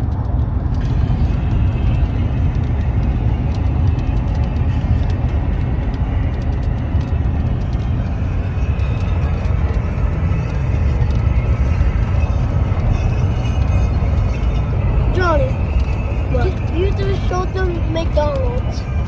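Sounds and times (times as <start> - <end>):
car engine rumble from inside: 0.0 - 19.0
rain hissing on wet road: 0.0 - 19.0.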